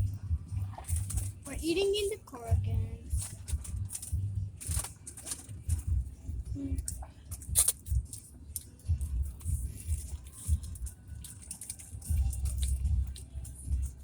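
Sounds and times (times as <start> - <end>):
chewing thumps: 2.5 - 14.0.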